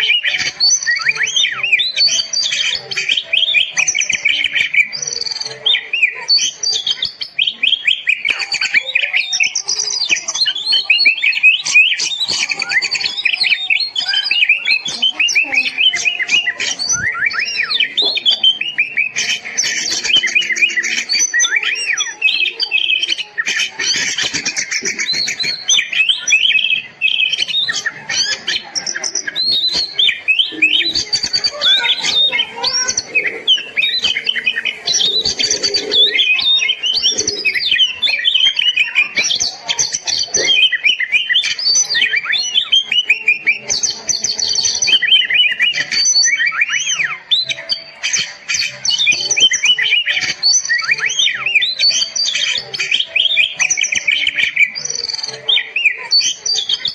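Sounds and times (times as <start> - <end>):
bird singing whistles and chirps: 0.0 - 56.9.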